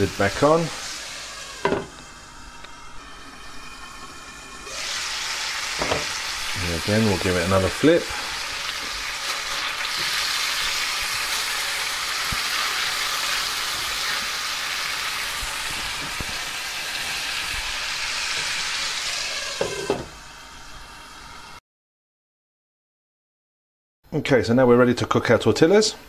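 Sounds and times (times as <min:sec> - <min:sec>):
fish sizzling in a pan: 0:00.0 - 0:21.5.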